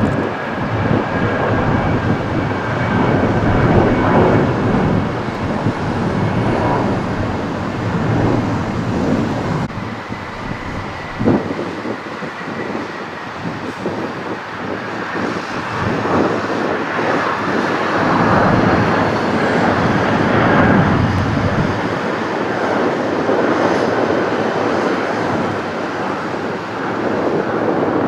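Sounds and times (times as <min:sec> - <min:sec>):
jet engines roaring at takeoff: 0:00.0 - 0:28.0.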